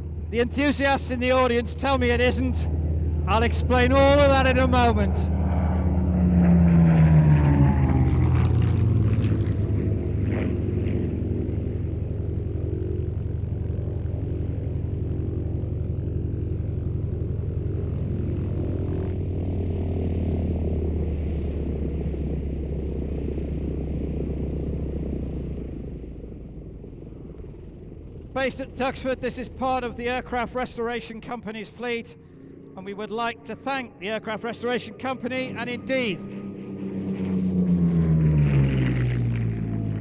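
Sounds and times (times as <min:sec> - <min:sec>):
propeller plane engine passing overhead: 0:00.0 - 0:40.0.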